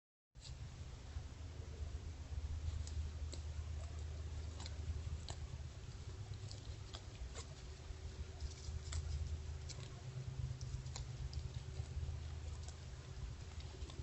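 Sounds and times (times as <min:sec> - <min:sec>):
low rumble: 0:00.4 - 0:14.0
deer chewing grass: 0:01.7 - 0:14.0.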